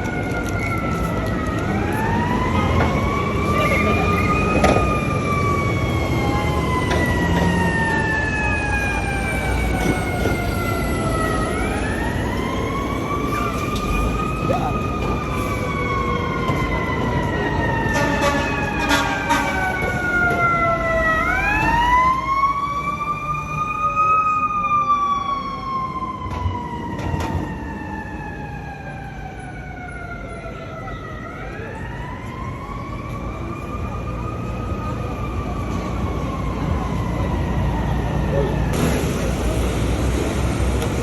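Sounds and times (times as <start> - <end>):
emergency siren wailing: 0.0 - 41.0
street traffic: 0.0 - 41.0.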